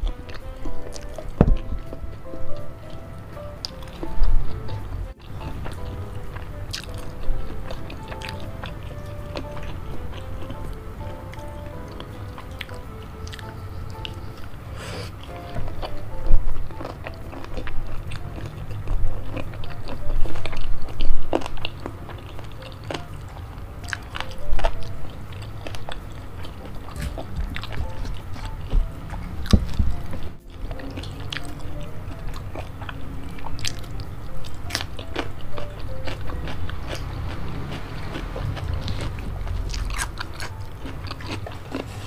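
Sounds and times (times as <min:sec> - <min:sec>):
person chewing wetly: 0:00.0 - 0:42.0.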